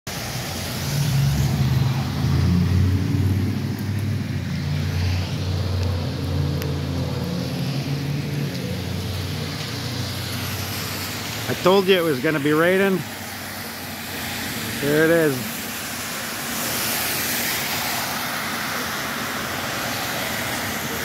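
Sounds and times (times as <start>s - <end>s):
rain on wet street: 0.1s - 21.0s
vehicle engine rumbling: 0.1s - 21.0s.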